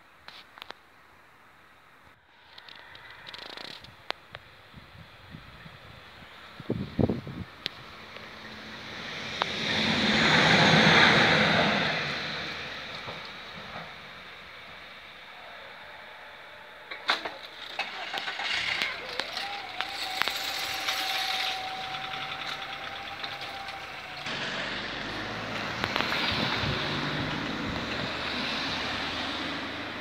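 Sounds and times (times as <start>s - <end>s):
passing road traffic: 2.1s - 30.0s.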